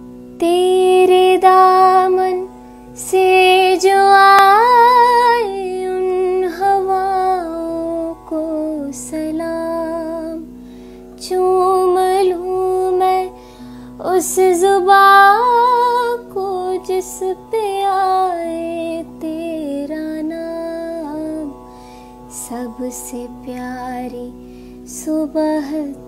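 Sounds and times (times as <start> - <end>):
slow wavering melody: 0.0 - 26.0.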